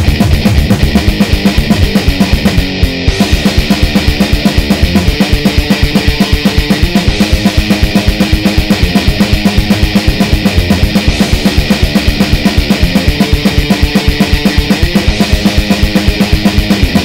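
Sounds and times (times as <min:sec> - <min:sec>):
rock music with fast drums: 0:00.0 - 0:17.0.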